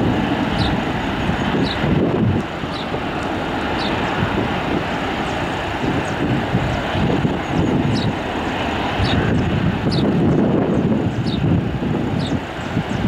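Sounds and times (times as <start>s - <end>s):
distant jet engines rushing: 0.0s - 13.0s
wind buffeting microphone: 0.0s - 13.0s.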